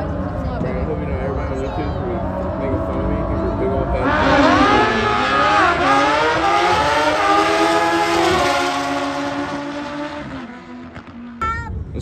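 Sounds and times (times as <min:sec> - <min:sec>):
motorcycles accelerating hard: 0:00.0 - 0:11.9.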